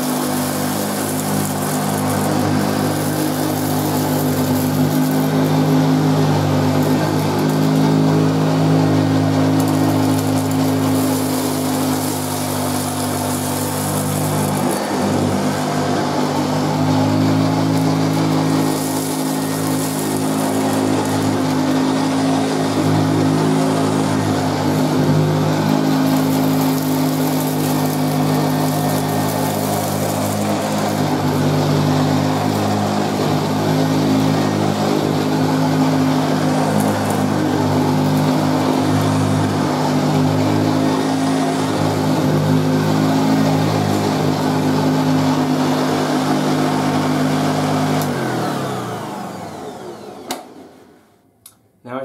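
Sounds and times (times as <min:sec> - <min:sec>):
upright vacuum cleaner running: 0:00.0 - 0:51.2.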